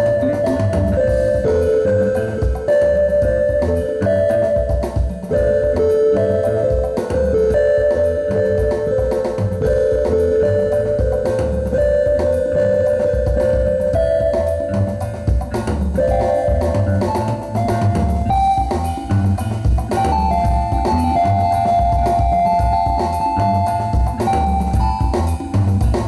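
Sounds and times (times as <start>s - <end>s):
bass: 0.0s - 26.0s
drum kit beat: 0.0s - 26.0s
melody of long held notes: 0.0s - 26.0s.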